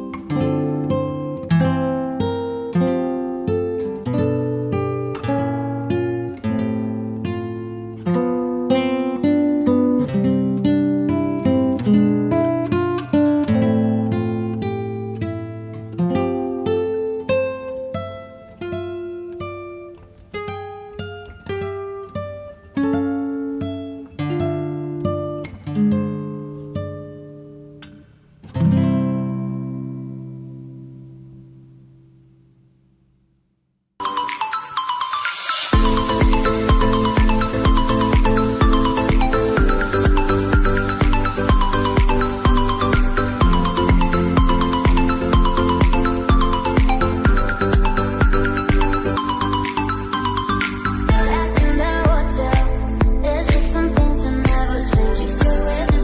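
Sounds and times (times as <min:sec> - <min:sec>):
acoustic guitar melody: 0:00.0 - 0:33.4, 0:34.0 - 0:56.0.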